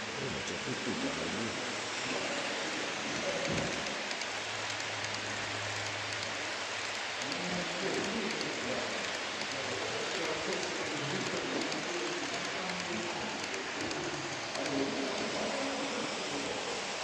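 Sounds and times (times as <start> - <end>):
model train wheels rolling: 0.0 - 17.0.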